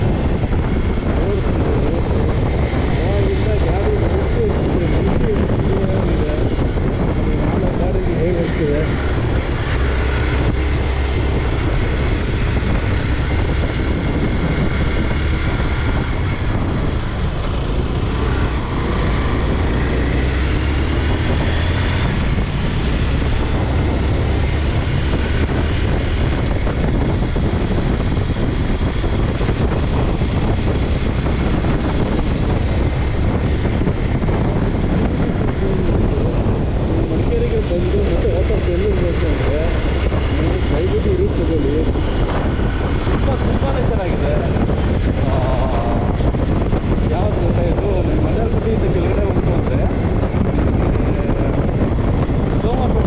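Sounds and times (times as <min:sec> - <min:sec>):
motorcycle engine running: 0:00.0 - 0:53.0
wind rush on microphone: 0:00.0 - 0:53.0.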